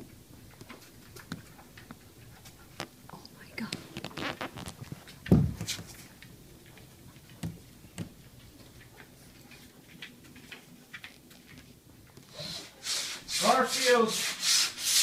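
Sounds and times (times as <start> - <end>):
claws ticking on hard floor: 0.0 - 12.3.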